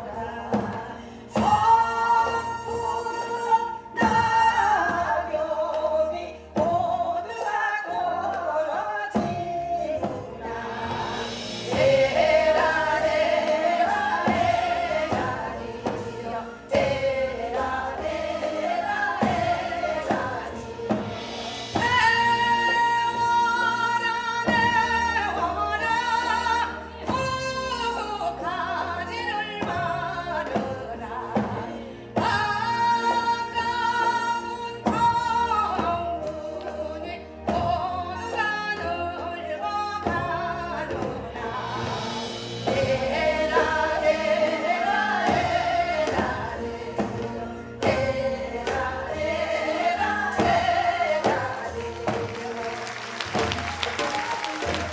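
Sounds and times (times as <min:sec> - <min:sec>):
traditional instrumental accompaniment: 0:00.0 - 0:54.9
women singing folk song: 0:00.0 - 0:54.9.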